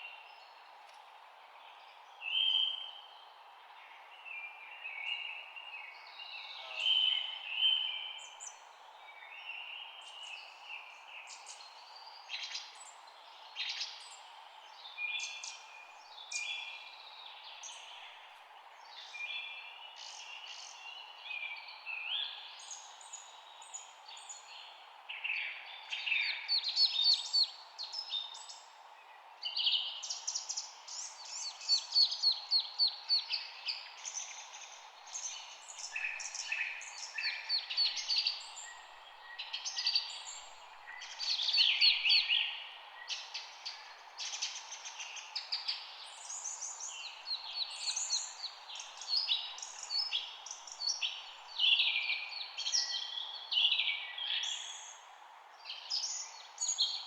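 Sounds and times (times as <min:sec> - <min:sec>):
steady background hiss: 0:00.1 - 0:57.0
songbirds chirping and singing: 0:02.4 - 0:57.0.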